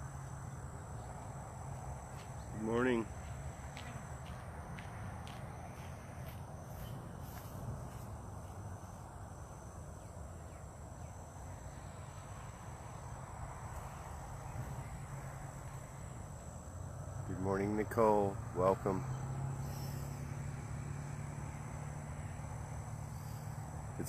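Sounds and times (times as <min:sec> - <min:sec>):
crickets trilling: 0:00.0 - 0:24.0
low outdoor rumble: 0:00.0 - 0:24.0.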